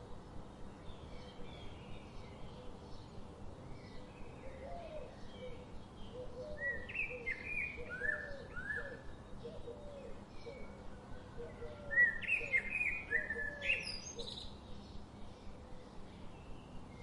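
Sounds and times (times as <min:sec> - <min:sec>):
low background hiss: 0:00.0 - 0:17.0.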